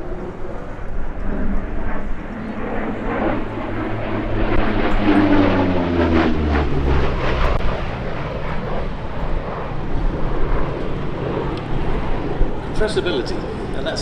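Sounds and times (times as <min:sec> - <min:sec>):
propeller aircraft engines passing: 0:00.0 - 0:14.0.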